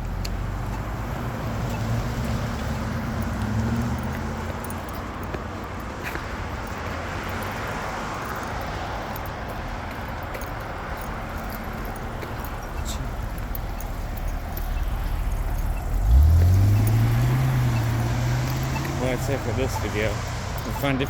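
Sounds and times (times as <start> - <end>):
road traffic: 0.0 - 21.0
vehicle engine: 0.0 - 21.0.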